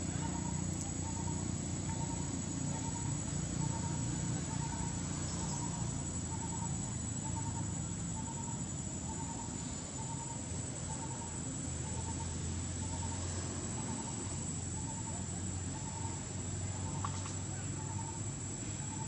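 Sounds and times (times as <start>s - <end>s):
high-pitched insect drone: 0.0s - 19.0s
short insect chirp: 0.0s - 19.0s.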